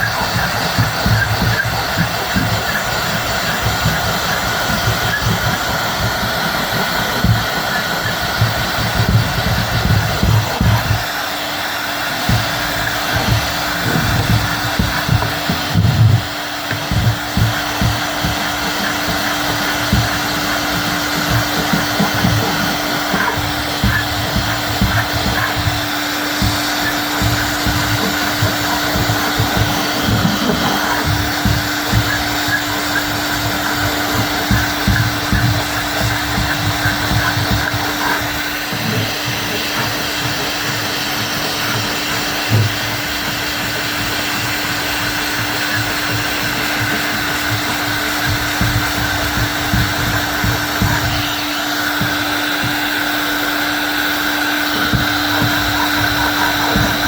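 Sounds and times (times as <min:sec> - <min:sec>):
electric tool motor humming: 0:00.0 - 0:57.0
low rubbing and knocking: 0:00.0 - 0:57.0.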